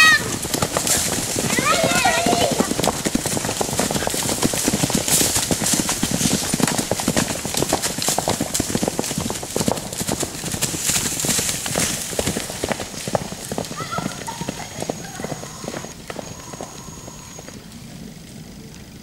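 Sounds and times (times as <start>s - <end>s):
hoofbeats on dry leaves: 0.0s - 18.2s.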